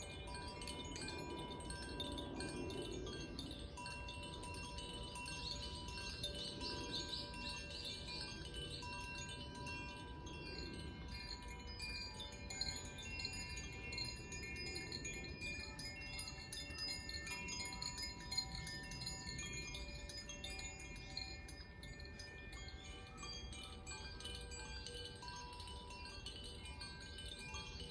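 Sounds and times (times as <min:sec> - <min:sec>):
chimes ringing: 0:00.0 - 0:27.9.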